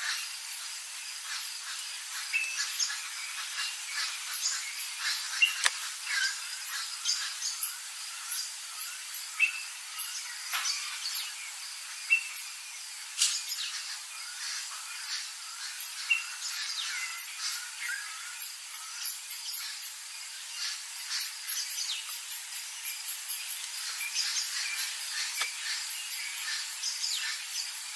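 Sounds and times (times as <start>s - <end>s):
wild birds calling: 0.0s - 12.5s, 13.4s - 27.9s
high-pitched insect chirps: 0.0s - 27.9s.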